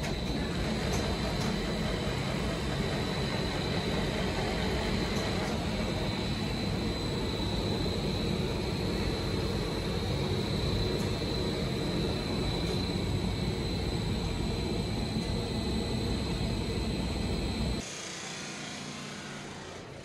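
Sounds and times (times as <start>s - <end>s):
factory machinery running: 0.0s - 20.0s
high-pitched whine: 0.0s - 20.0s.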